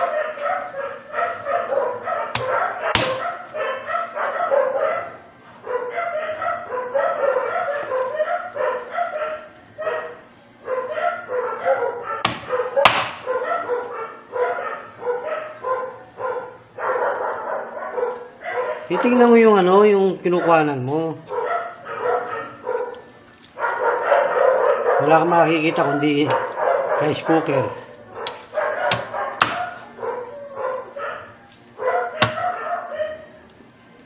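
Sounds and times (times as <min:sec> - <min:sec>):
dog barking: 0:00.0 - 0:33.4.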